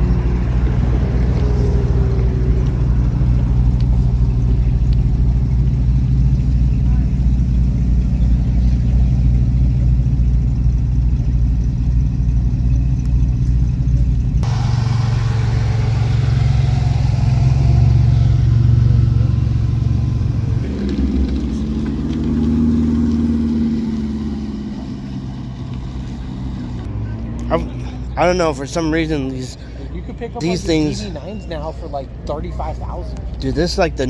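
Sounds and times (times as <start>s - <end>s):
car engine running: 0.0s - 34.0s.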